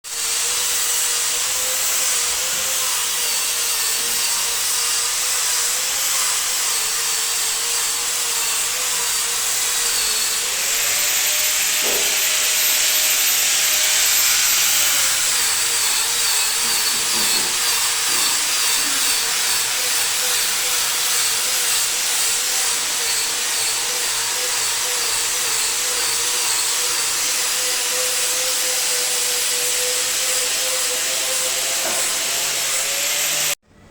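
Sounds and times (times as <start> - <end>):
power tool running with hiss: 0.1 - 33.6.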